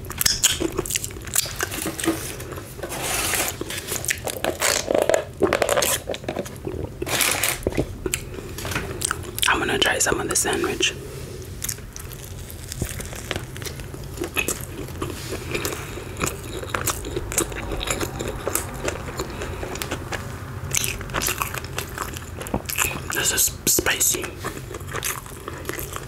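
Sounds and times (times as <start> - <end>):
crunchy chewing: 0.0 - 9.5, 11.0 - 26.0.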